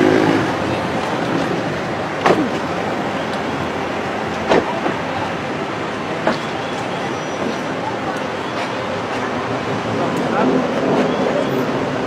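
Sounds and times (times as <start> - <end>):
idling vehicles and traffic: 0.0 - 12.0.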